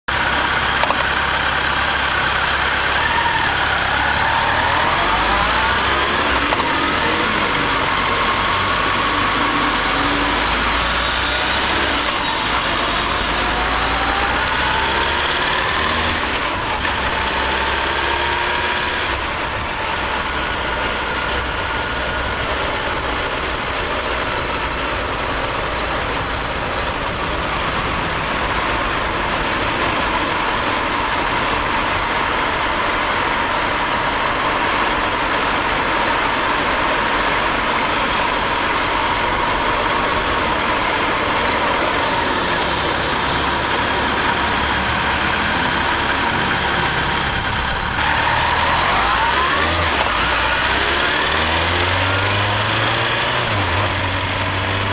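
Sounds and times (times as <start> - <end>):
motorcycle engine: 0.1 - 54.9
wind and road noise: 0.1 - 54.9.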